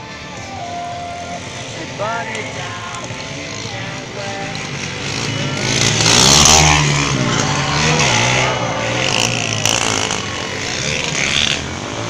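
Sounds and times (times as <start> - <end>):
motorcycle engine revving: 1.2 - 12.0.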